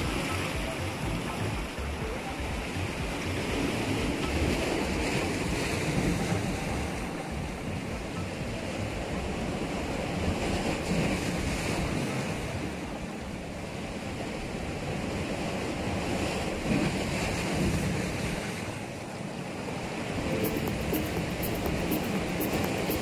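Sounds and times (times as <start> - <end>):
waves washing on rocky shore: 0.0 - 23.0.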